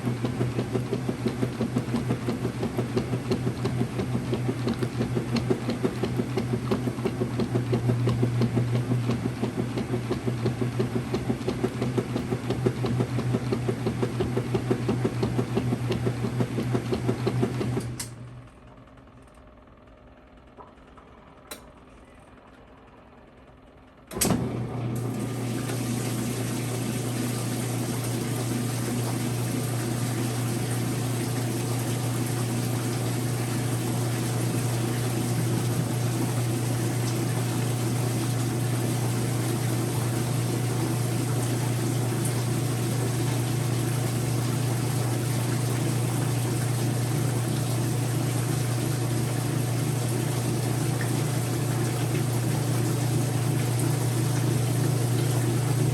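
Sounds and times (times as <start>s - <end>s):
water rushing into tub: 0.0s - 17.7s, 24.4s - 55.9s.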